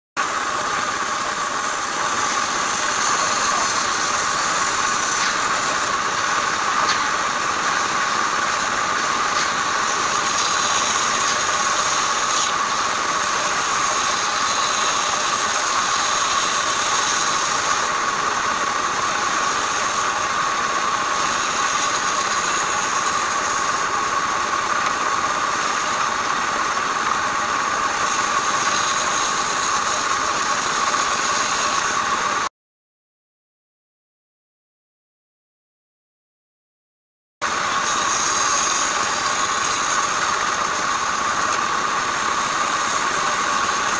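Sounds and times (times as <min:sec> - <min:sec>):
band saw cutting wood: 0:00.2 - 0:32.5, 0:37.4 - 0:43.9.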